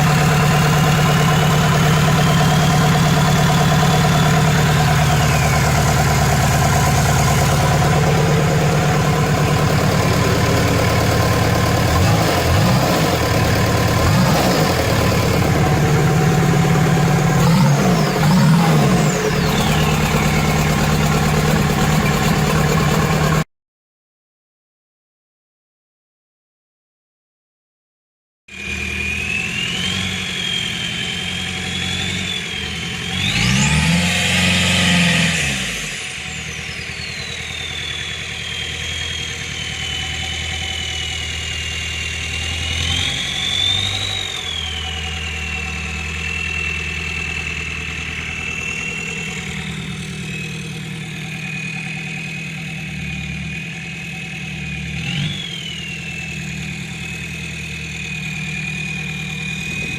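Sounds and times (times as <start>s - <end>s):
turbo whistling: 0.0s - 23.4s, 28.5s - 33.8s, 36.0s - 52.4s, 54.0s - 59.9s
diesel engine idling and revving: 0.0s - 23.5s, 28.5s - 59.9s.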